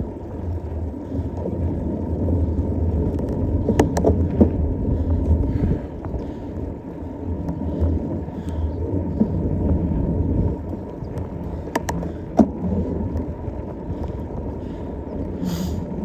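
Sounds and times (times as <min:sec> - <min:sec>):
mountain bike rolling rumble: 0:00.0 - 0:16.0
wind buffeting microphone: 0:00.0 - 0:16.0.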